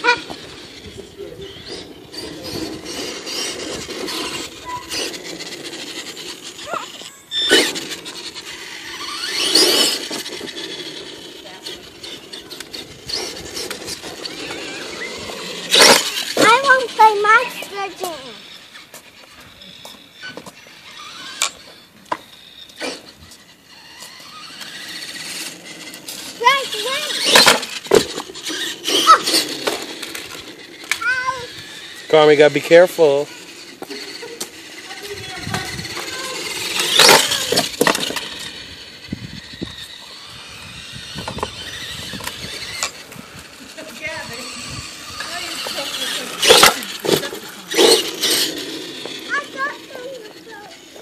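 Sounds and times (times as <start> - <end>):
radio-controlled car driving: 0.0 - 51.0
toy truck motor whining: 0.0 - 51.0.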